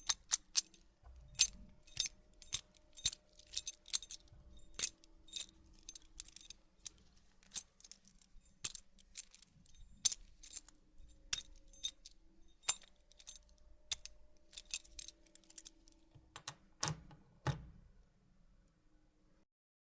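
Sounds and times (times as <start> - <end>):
metal keys jingling: 0.0 - 17.6.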